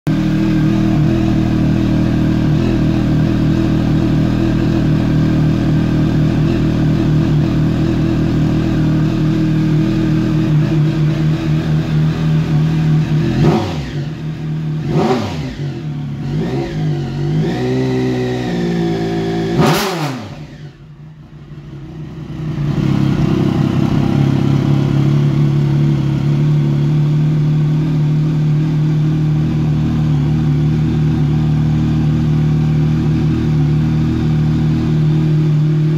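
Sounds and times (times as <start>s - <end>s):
motorcycle engine idling and revving: 0.1s - 35.9s.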